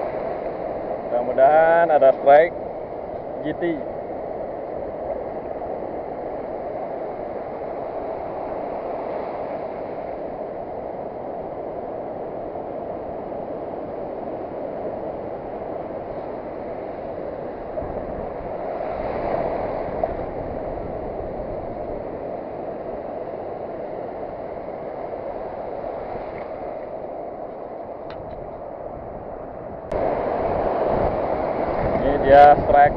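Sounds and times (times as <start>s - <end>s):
surf washing onto beach: 0.0s - 32.9s.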